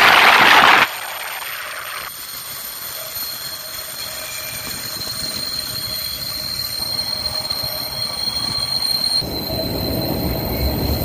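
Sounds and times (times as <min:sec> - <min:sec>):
high-pitched wheel squeal: 0:02.0 - 0:11.0
train wheels rumbling and clattering: 0:02.1 - 0:11.0.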